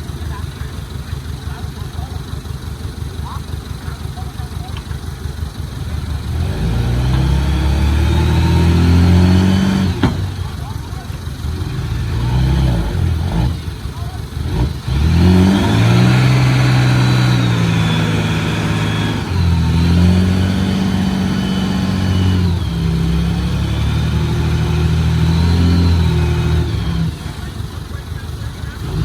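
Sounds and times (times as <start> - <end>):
bulldozer diesel engine revving: 0.0 - 29.0.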